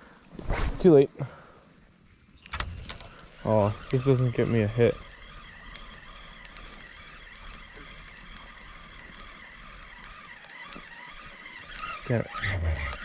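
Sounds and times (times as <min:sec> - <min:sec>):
fishing reel whirring: 0:01.6 - 0:13.0.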